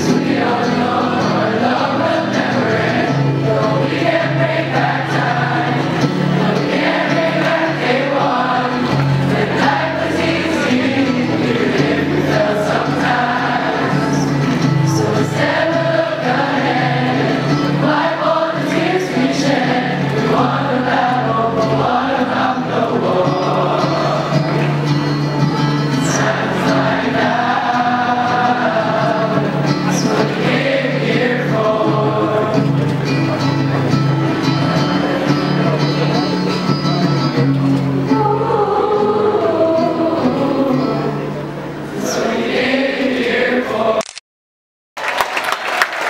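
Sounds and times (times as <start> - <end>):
choir singing slow song: 0.0 - 24.7, 25.7 - 33.0, 38.0 - 44.0.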